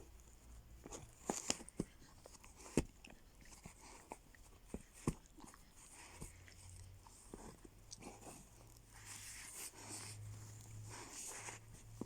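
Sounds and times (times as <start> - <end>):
puppy chewing: 0.2 - 11.3.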